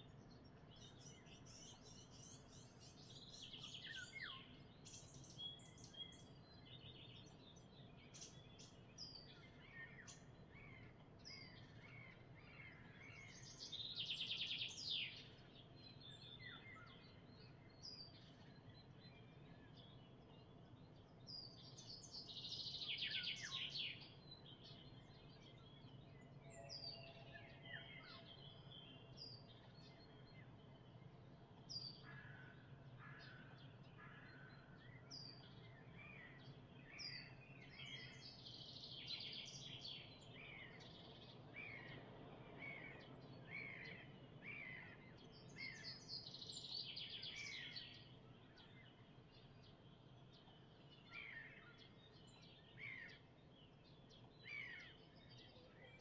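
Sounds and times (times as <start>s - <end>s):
bird trilling song: 0.0s - 56.0s
songbirds chirping: 0.0s - 56.0s.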